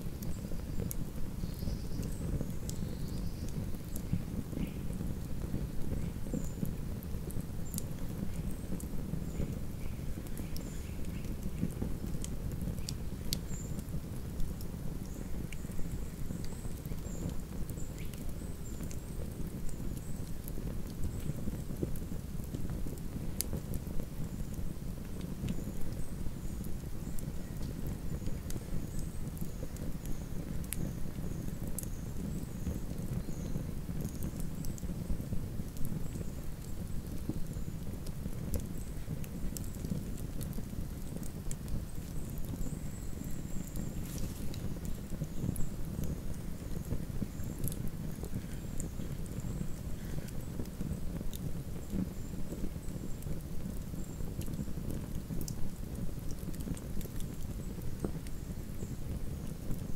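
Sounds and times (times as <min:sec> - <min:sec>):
campfire crackling and popping: 0:00.0 - 0:59.9
low rumble of burning flames: 0:00.0 - 0:59.9.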